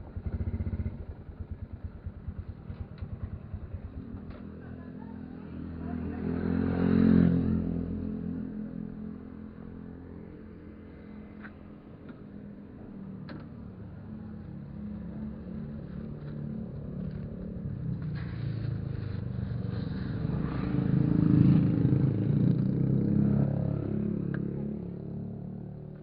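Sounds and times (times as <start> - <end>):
vehicle engine on road: 0.0 - 26.0.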